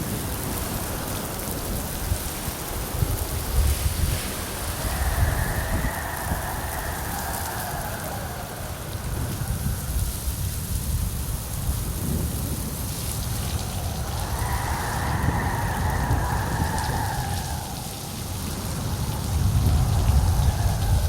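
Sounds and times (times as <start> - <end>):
rolling thunder rumble: 0.0 - 21.0
steady rain: 0.0 - 21.0.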